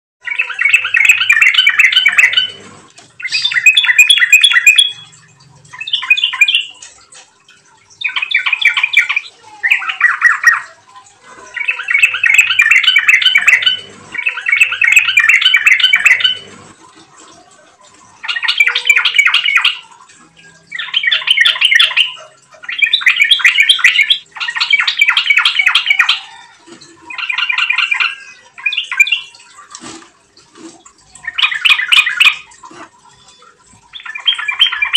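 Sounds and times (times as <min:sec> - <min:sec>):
bulbul singing: 0:00.2 - 0:16.7, 0:17.3 - 0:29.7, 0:30.9 - 0:34.9.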